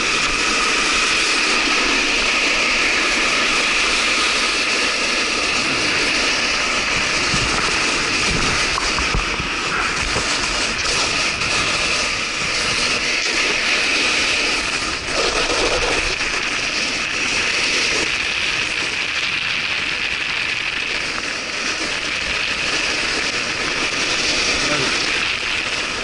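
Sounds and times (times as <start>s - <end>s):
board sliding over icy slush: 0.0s - 26.0s
wind on microphone: 0.0s - 26.0s.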